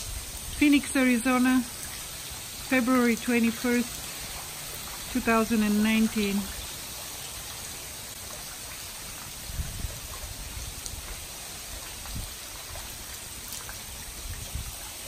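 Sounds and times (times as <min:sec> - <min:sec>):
ice pellets and rain pattering: 0:00.0 - 0:15.0.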